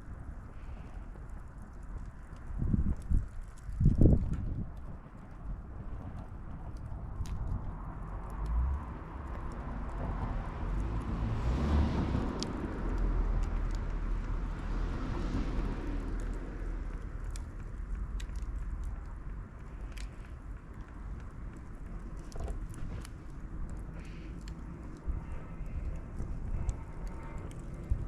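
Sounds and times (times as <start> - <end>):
campfire crackling and popping: 0.0 - 28.0
low rumble: 3.8 - 28.0.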